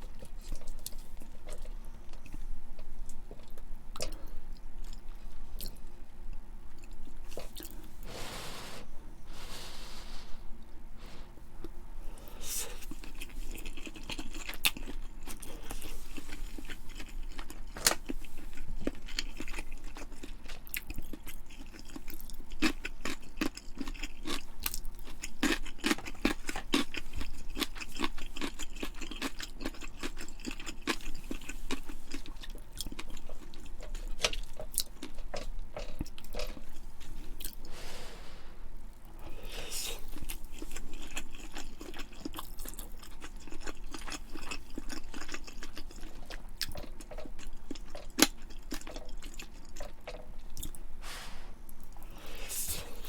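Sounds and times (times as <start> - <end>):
person chewing: 0.0 - 8.2, 11.6 - 38.1, 39.3 - 53.0.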